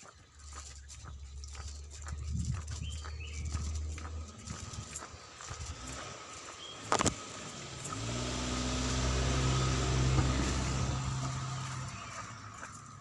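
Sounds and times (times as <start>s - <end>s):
vehicle engine passing by: 0.5s - 13.0s.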